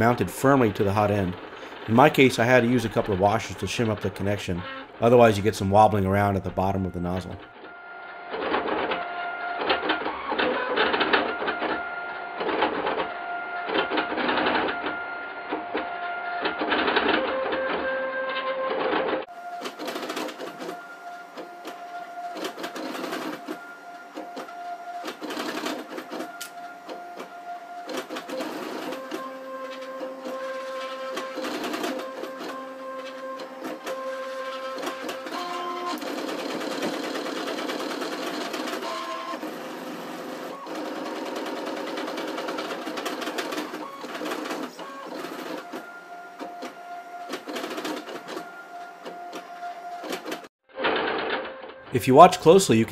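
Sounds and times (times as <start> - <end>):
stepper motors whining: 0.0 - 50.5.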